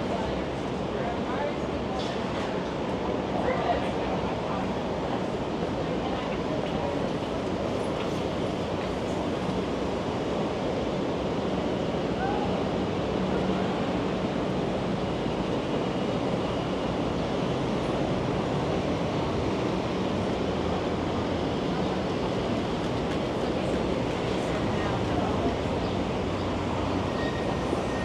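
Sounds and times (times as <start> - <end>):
train rumbling rush: 0.0 - 28.0.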